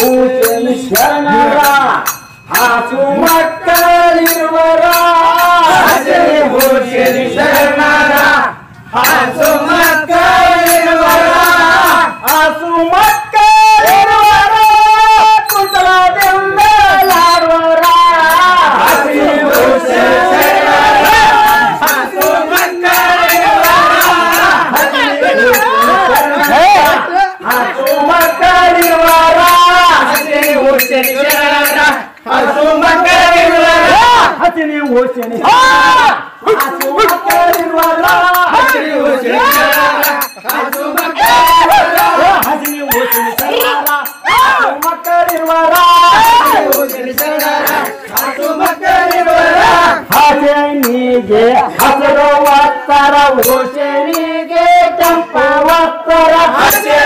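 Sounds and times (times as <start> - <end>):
men singing folk song: 0.0 - 57.0
percussion beat: 0.0 - 57.0.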